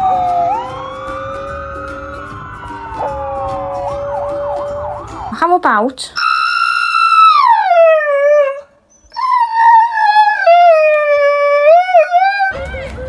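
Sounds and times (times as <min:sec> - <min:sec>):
dog howling: 0:00.0 - 0:05.3, 0:06.2 - 0:13.0.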